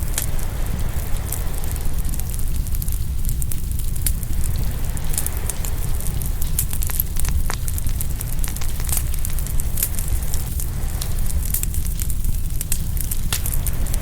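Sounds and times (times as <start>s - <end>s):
low rumble of waves: 0.0s - 14.0s
wood fire crackling and popping: 0.0s - 14.0s.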